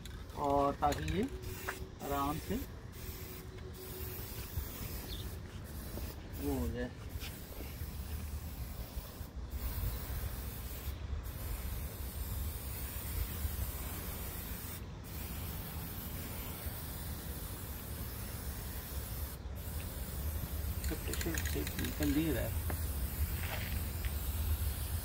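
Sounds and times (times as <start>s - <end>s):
aerosol spray can hissing: 1.4s - 25.0s.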